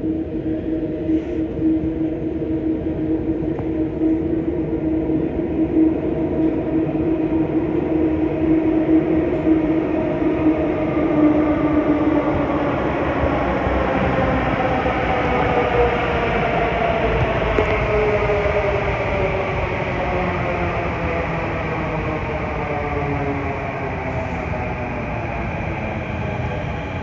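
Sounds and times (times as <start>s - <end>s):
train wheel rumble: 0.0s - 27.0s.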